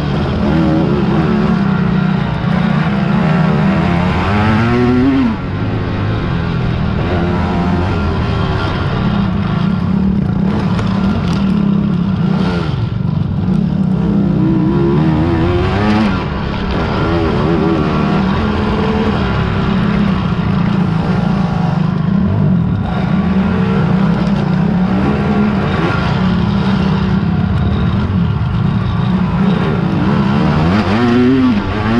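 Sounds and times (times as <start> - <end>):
low engine drone: 0.0 - 31.9
quad engines revving: 0.0 - 31.9.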